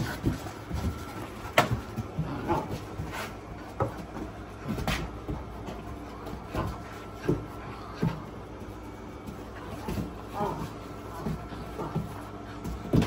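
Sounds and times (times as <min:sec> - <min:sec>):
puppy scuffling on wooden floor: 0:00.0 - 0:13.0.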